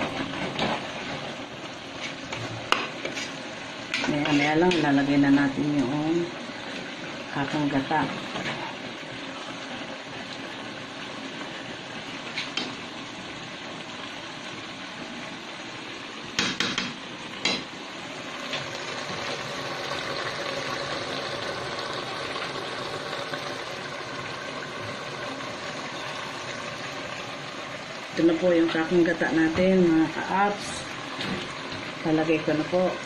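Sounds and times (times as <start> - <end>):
stew simmering in a pot: 0.0 - 33.0.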